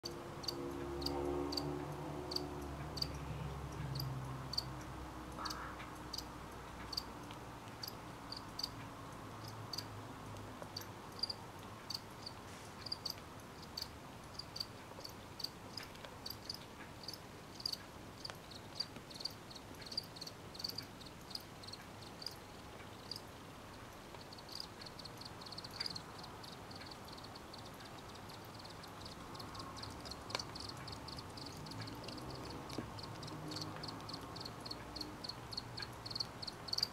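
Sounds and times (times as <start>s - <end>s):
crickets chirping: 0.0s - 4.8s, 5.4s - 6.3s, 7.8s - 8.8s, 10.8s - 36.9s.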